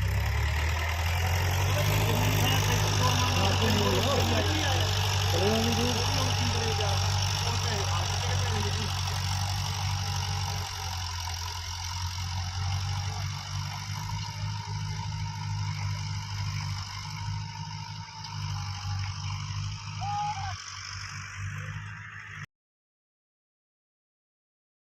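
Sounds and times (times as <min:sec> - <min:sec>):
tractor diesel engine running: 0:00.0 - 0:22.5.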